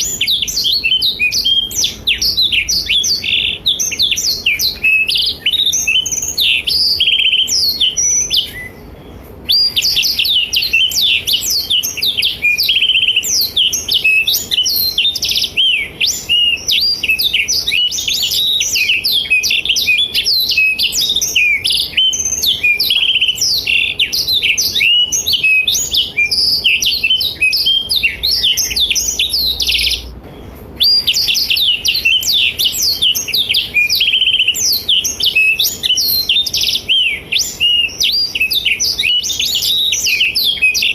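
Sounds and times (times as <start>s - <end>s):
canary singing chirps and trills: 0.0s - 40.9s.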